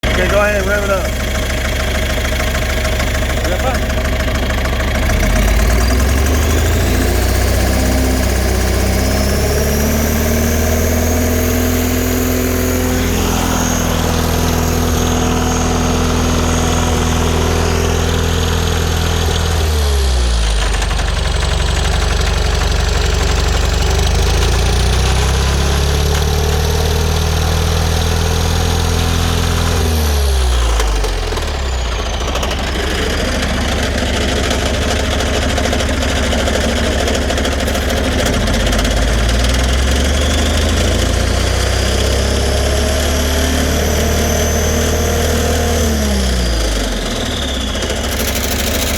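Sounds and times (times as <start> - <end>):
diesel engine revving: 0.0 - 48.9
high engine whine: 0.0 - 48.9.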